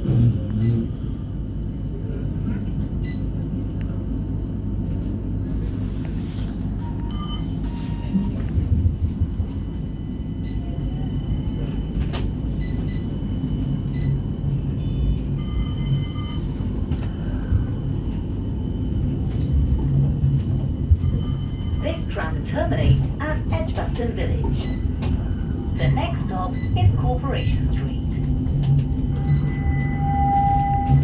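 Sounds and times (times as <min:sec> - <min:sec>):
tram running gear rumble: 0:00.0 - 0:31.0.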